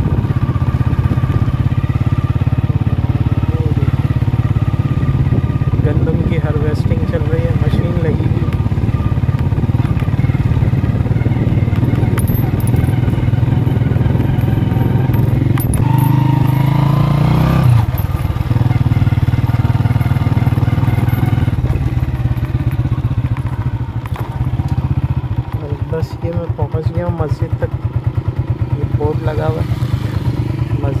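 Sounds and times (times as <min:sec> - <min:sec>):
small motorcycle engine running: 0:00.0 - 0:31.0.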